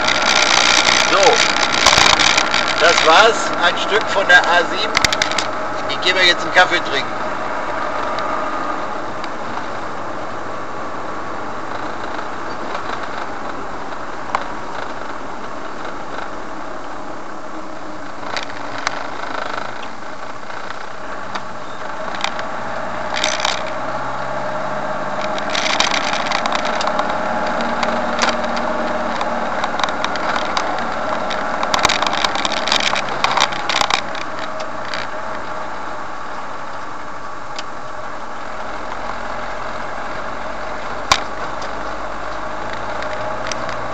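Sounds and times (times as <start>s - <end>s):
clicks and crackling: 0.0s - 7.0s, 11.6s - 17.0s, 18.0s - 23.8s, 25.0s - 35.7s, 36.3s - 43.9s
car engine and tyre noise: 0.0s - 43.9s.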